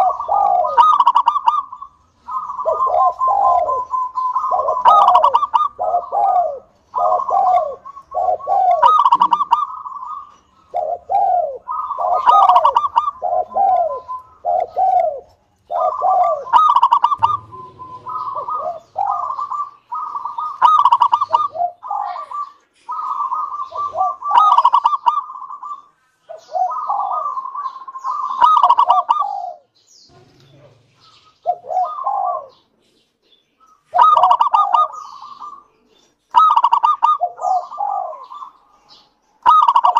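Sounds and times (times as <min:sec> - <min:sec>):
dove cooing: 0:00.0 - 0:32.8, 0:33.6 - 0:39.9.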